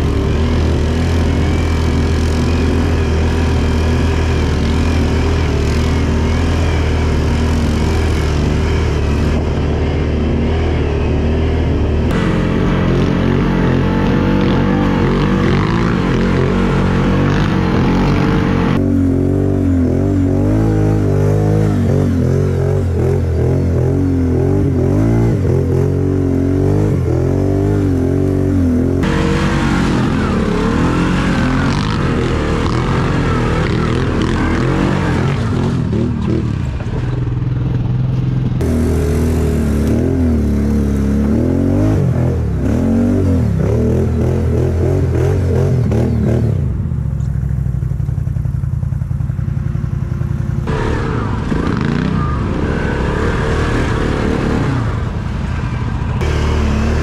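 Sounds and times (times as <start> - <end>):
quad bike engine revving: 0.0 - 47.0, 49.0 - 57.0.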